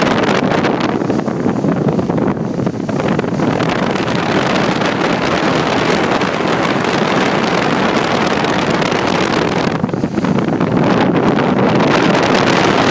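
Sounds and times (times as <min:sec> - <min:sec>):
motor boat engine running: 0:00.0 - 0:12.9
wind buffeting microphone: 0:00.0 - 0:12.9.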